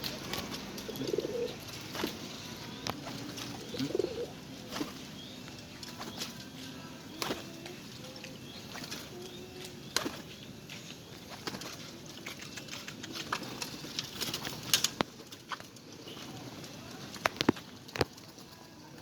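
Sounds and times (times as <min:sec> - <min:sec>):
pigeons flapping wings: 0:00.0 - 0:10.4, 0:11.2 - 0:19.0.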